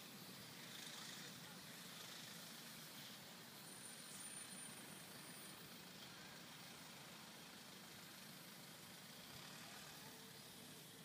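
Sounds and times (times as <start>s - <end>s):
faint road traffic: 0.0s - 11.0s.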